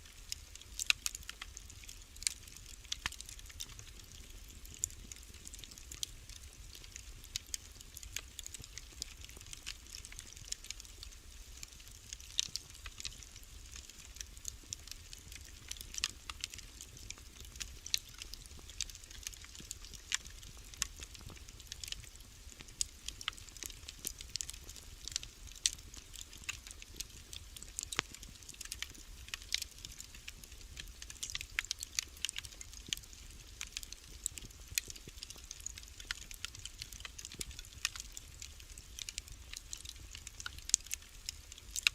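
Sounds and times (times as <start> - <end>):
low fire rumble: 0.0 - 41.7
wood fire crackling: 0.0 - 41.9.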